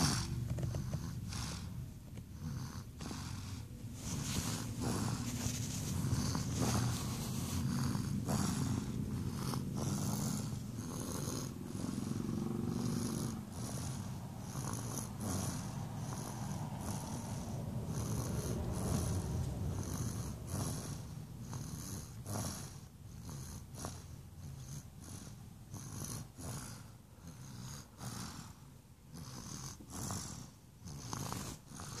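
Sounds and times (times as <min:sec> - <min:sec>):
person snoring: 0:00.0 - 0:32.0.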